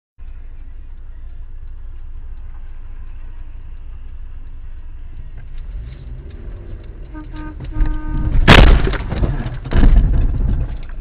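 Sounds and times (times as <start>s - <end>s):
car engine and road noise: 0.2s - 11.0s.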